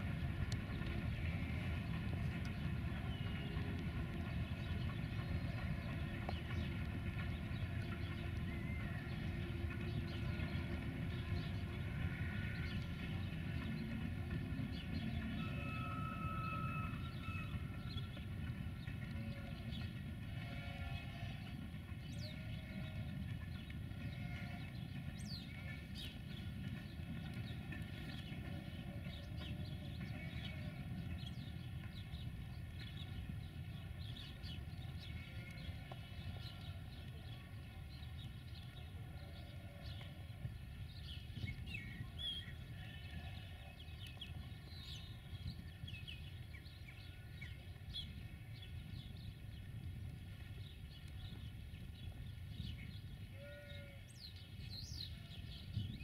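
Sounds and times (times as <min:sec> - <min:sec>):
distant freight train rumbling: 0:00.0 - 0:49.3.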